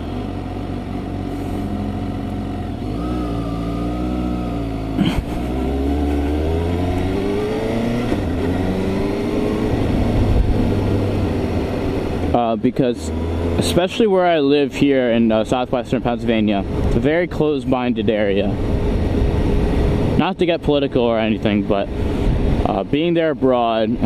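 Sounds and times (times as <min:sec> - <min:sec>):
motorcycle engine accelerating: 0:00.0 - 0:20.2.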